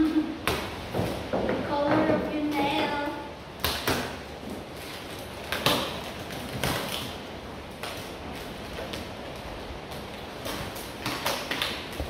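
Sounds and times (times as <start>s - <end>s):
rustling of tape and plastic wrap: 0.0s - 12.0s.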